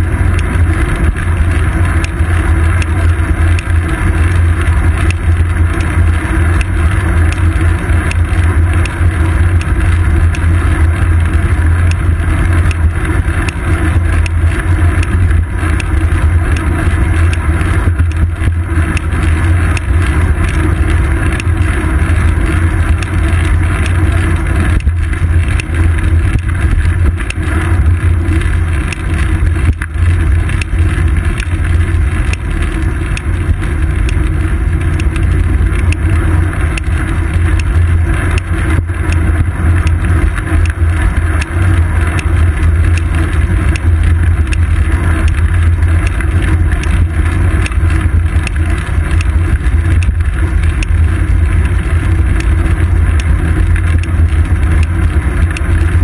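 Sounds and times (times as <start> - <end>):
road vibration: 0.0 - 56.0
wind rumble: 0.0 - 56.0.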